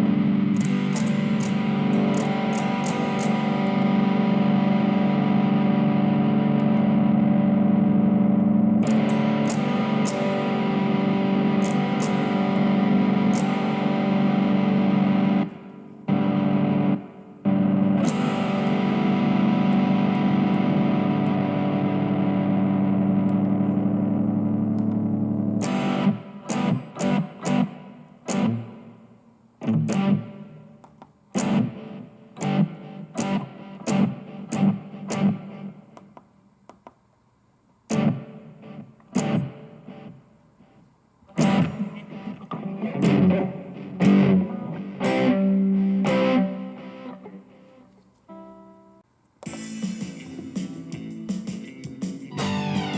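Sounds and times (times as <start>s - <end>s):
distorted electric guitar: 0.0s - 36.1s, 37.9s - 52.9s.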